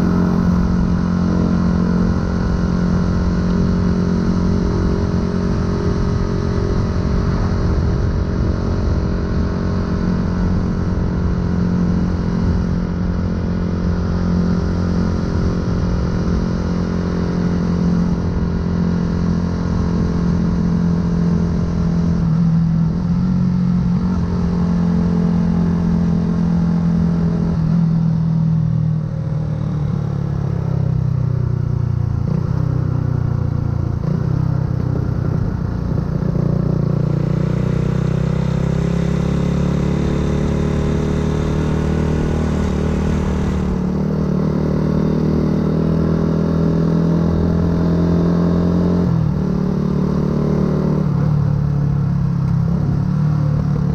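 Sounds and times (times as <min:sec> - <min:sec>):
motorcycle engine riding: 0:00.0 - 0:53.9.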